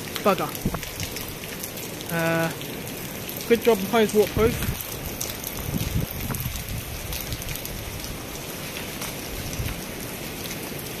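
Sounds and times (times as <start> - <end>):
heavy rain splashing on paving: 0.0 - 11.0
raindrops ticking nearby: 0.0 - 11.0.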